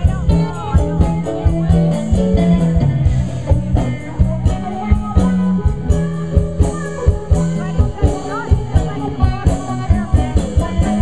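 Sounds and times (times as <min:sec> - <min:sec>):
electric guitar: 0:00.0 - 0:11.0
low bass line: 0:00.0 - 0:11.0
steady drum beat: 0:00.0 - 0:11.0.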